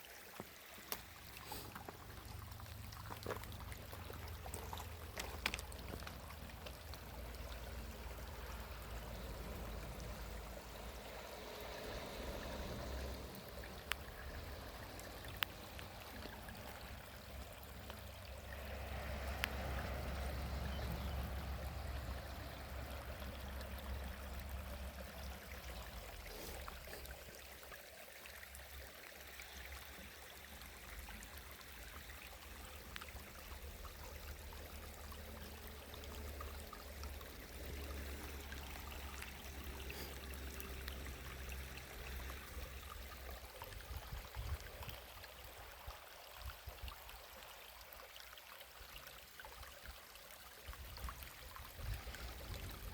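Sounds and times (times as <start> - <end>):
running water rushing: 0.0 - 52.9.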